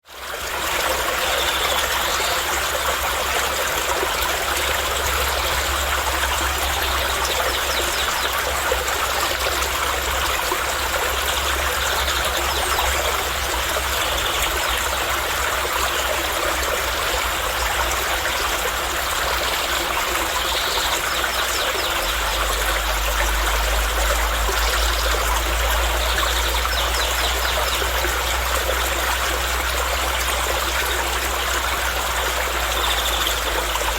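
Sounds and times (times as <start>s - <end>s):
stream water trickling: 0.0s - 33.9s.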